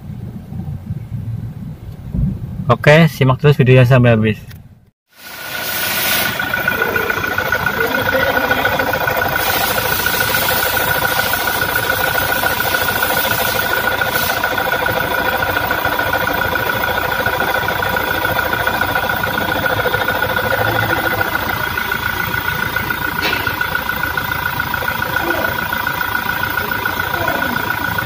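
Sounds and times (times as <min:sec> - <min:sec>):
rough alternator whirring: 0:04.5 - 0:28.0
diesel engine idling: 0:05.1 - 0:28.0.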